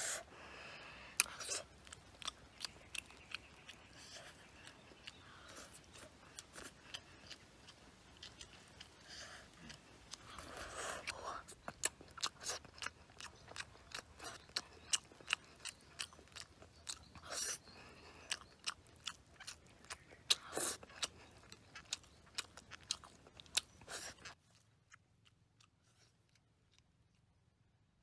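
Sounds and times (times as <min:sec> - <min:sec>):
person chewing and lip smacking: 0:01.0 - 0:27.4.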